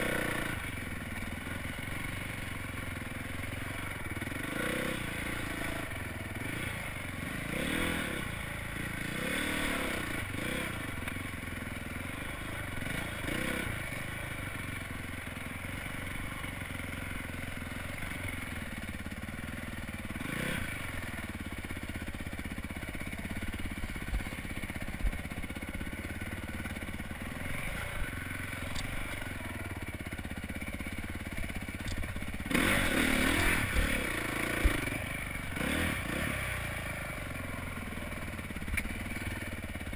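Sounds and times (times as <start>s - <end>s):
dirt bike engine revving: 0.0s - 11.1s, 11.8s - 38.7s.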